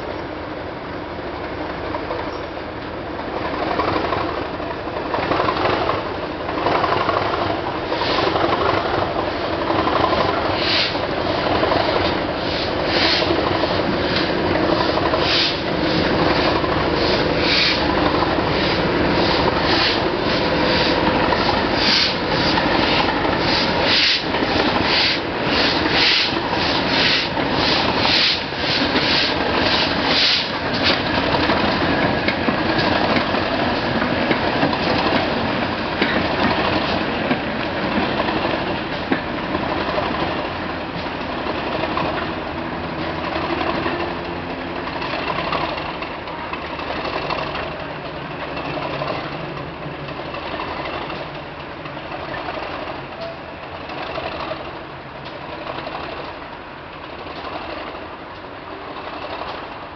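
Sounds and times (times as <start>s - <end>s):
train passing with rhythmic beat: 0.0s - 59.9s.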